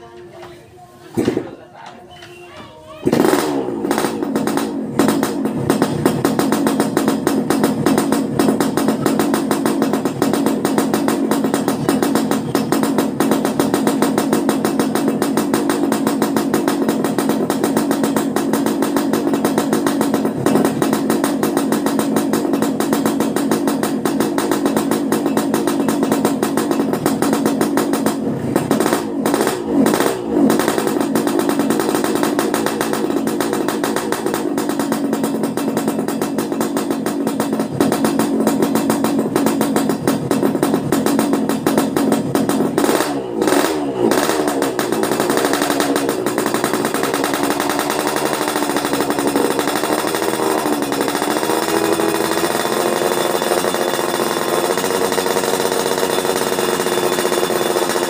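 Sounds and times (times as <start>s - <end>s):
two-stroke motorcycle engine revving: 3.0s - 58.0s.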